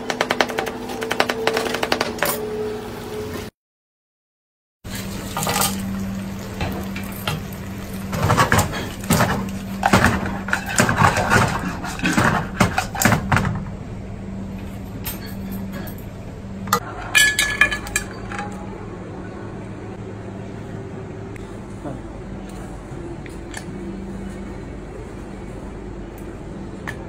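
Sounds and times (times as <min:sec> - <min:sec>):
steady low hum: 0:04.9 - 0:27.0.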